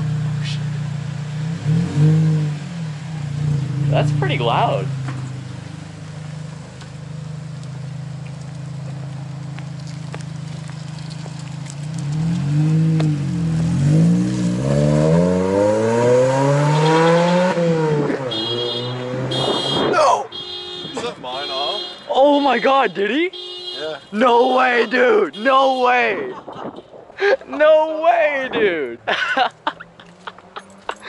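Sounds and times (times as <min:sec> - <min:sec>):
car engine idling and revving: 0:00.0 - 0:25.7, 0:27.6 - 0:31.0.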